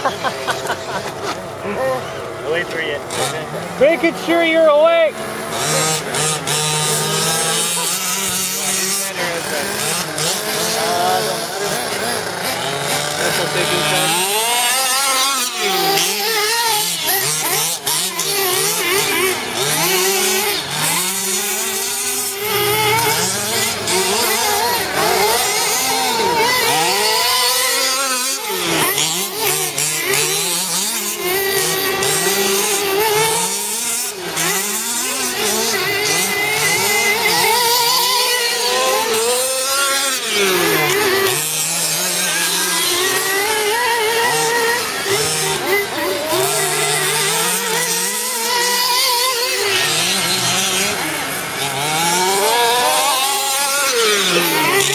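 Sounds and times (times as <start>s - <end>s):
rc buggy engines whining: 0.0s - 54.9s.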